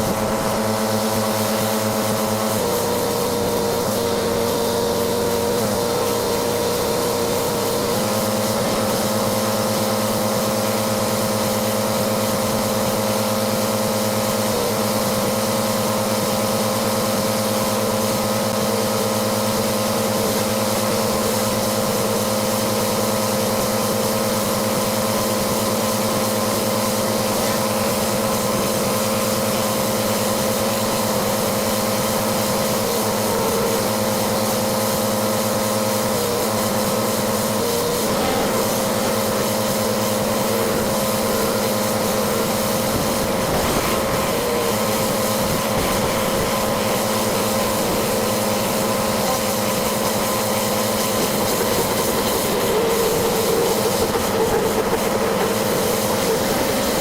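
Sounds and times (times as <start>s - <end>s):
pressure washer engine hum: 0.0s - 57.0s
water spray hissing: 0.0s - 57.0s.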